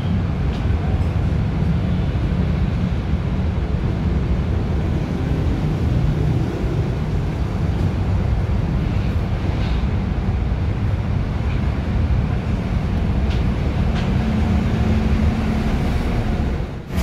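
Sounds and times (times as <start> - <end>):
bus engine rumble: 0.0 - 17.0
road traffic: 0.0 - 17.0.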